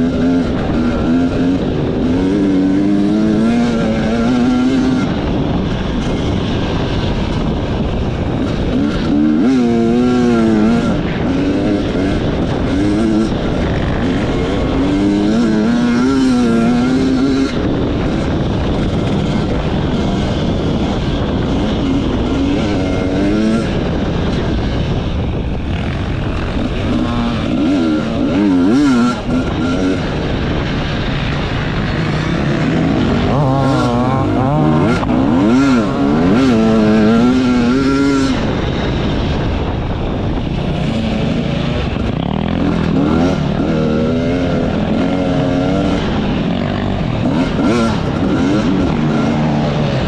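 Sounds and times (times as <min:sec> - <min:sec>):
constant rushing noise: 0:00.0 - 0:50.0
motorcycle engine revving: 0:00.0 - 0:50.0.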